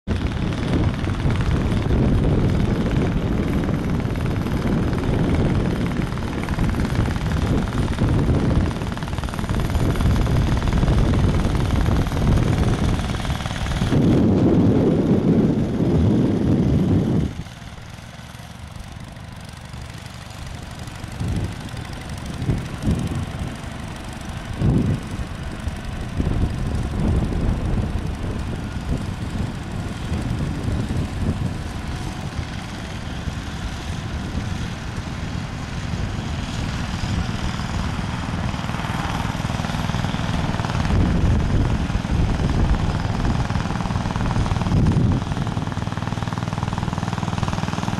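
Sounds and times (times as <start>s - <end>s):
engine popping: 0.1s - 47.9s
garden tractor engines running: 0.1s - 47.9s.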